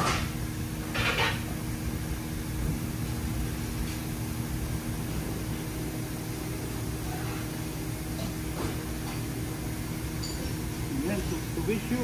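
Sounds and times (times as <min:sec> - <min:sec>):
workshop equipment humming: 0:00.0 - 0:12.0.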